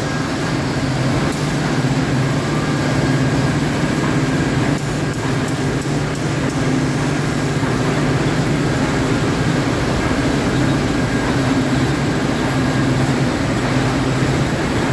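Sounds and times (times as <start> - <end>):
dryer and conveyor mechanical hum: 0.0 - 14.9.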